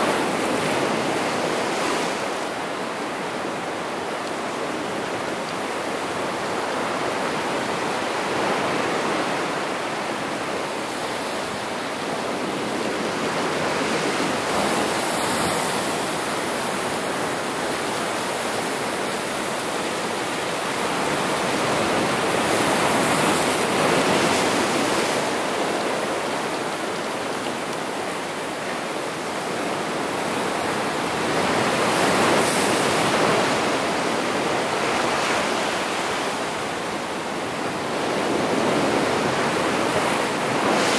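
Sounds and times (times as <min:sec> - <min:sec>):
ocean surf breaking on rocks: 0:00.0 - 0:40.9.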